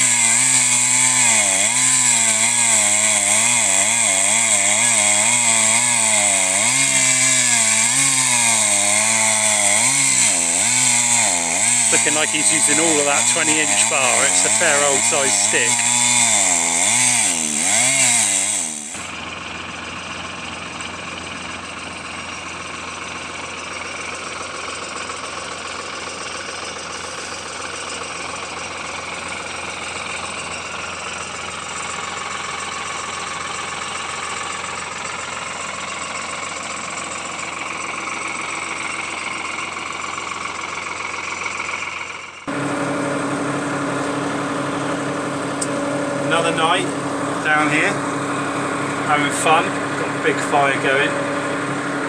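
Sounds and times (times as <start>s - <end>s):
chainsaw revving under load: 0.0s - 19.4s, 24.0s - 52.0s
another engine: 0.0s - 52.0s
engine idling: 0.0s - 52.0s.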